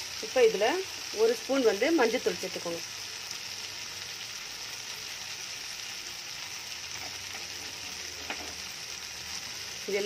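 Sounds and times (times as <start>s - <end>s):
food sizzling in oil in a pan: 0.0s - 10.0s.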